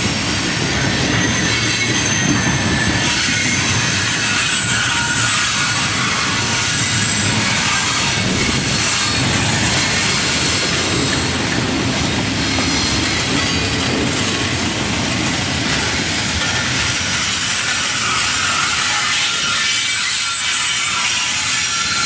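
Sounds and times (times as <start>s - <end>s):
high wheel squeal: 0.0s - 22.0s
steel wheels rumbling on rail: 0.0s - 22.0s.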